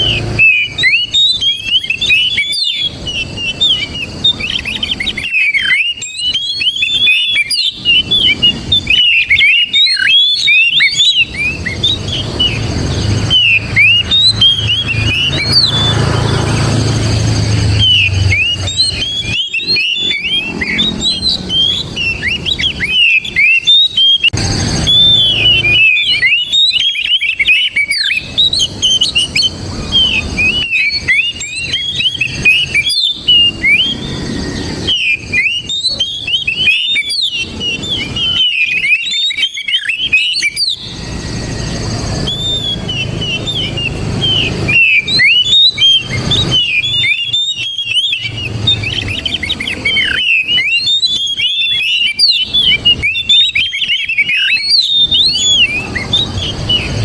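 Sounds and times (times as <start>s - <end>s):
bird singing whistles and chirps: 0.0s - 57.0s.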